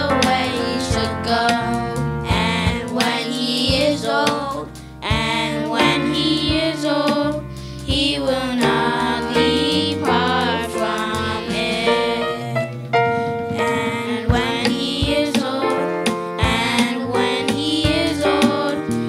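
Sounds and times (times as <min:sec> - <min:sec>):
children singing: 0:00.0 - 0:12.8, 0:13.5 - 0:19.0
instrumental accompaniment: 0:00.0 - 0:19.0.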